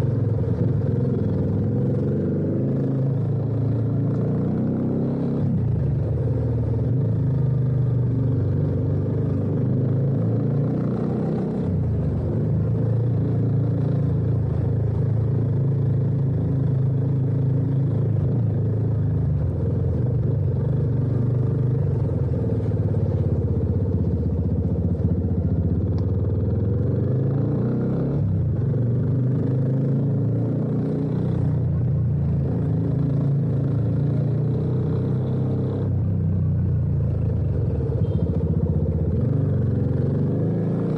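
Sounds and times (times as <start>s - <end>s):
motorcycle engine revving: 0.0s - 19.0s, 19.9s - 40.9s.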